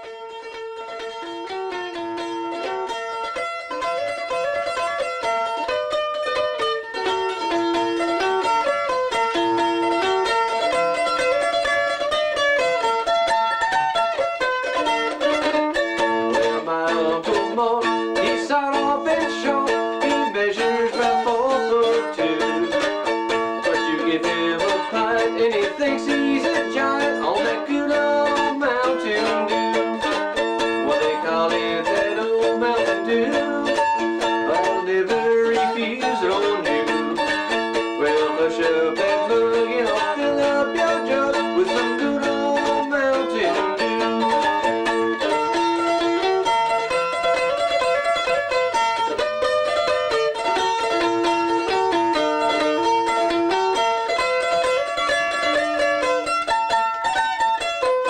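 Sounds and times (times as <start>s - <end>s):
fast picked string instrument: 0.0s - 58.0s.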